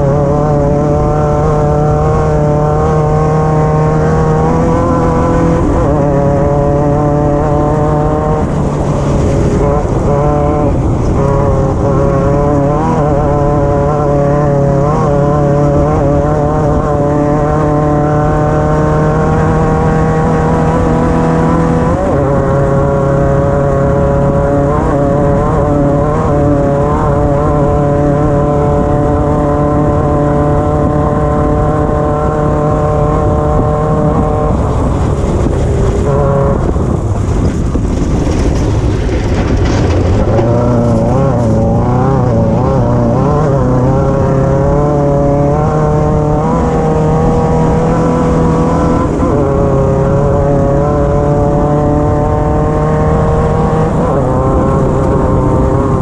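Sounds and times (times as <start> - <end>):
racing car engine running hard: 0.0 - 56.0.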